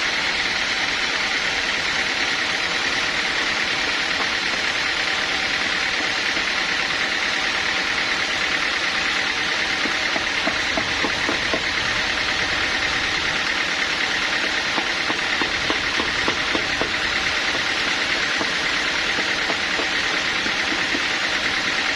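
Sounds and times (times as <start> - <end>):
sawmill machinery drone: 0.0 - 21.9.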